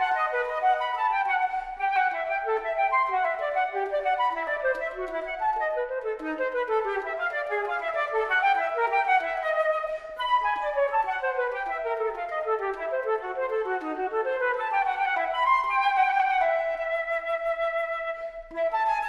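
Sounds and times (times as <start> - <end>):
woodwind music: 0.0 - 19.0.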